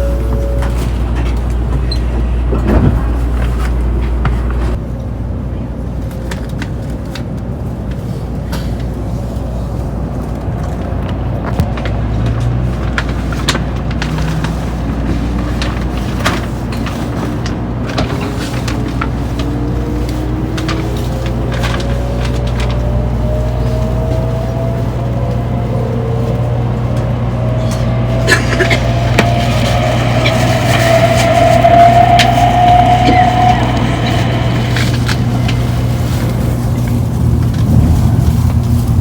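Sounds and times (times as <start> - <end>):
train cabin rumble: 0.0 - 39.0.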